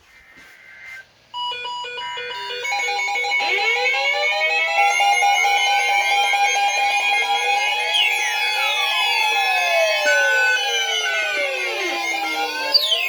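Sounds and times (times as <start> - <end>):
stepped electronic beeps: 0.6 - 13.0
rising alarm tone sweeps: 1.4 - 13.0
warbling data tones: 1.8 - 13.0.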